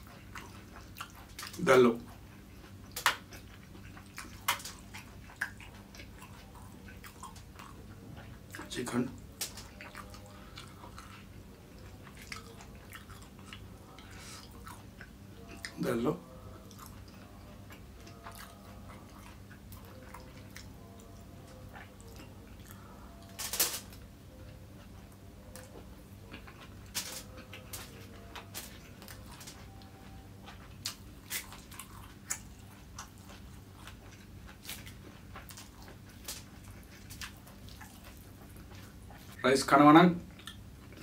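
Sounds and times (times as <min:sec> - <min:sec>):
person chewing: 0:00.0 - 0:39.4, 0:40.3 - 0:41.0
steady low hum: 0:00.0 - 0:41.0.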